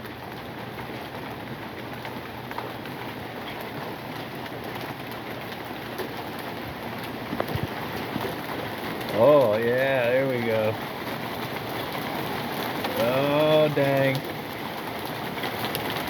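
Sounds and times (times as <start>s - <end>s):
hail pattering on ground: 0.0s - 16.0s.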